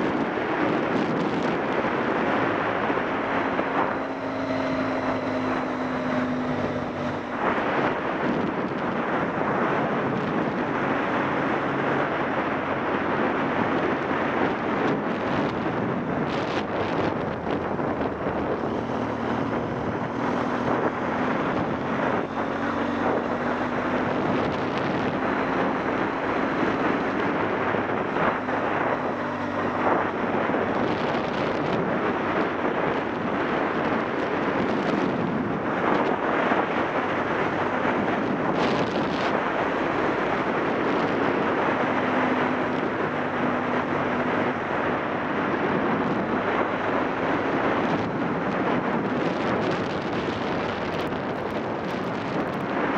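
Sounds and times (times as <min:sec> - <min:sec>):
faint motorcycle engine: 0:00.0 - 0:52.7
wind rushing over microphone: 0:00.0 - 0:52.9.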